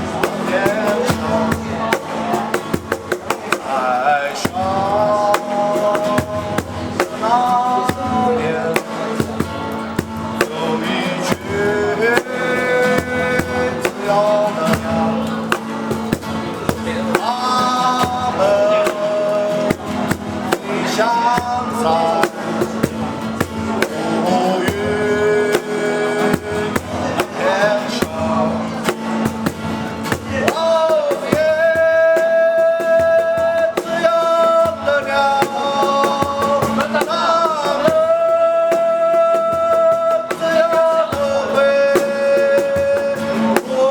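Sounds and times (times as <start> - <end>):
guitar and drum band playing: 0.0 - 43.9.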